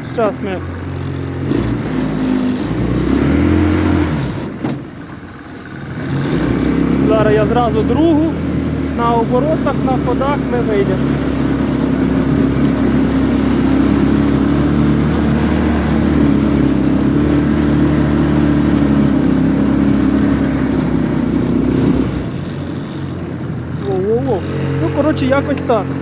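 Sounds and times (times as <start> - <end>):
scooter engine at high revs: 0.0 - 26.0.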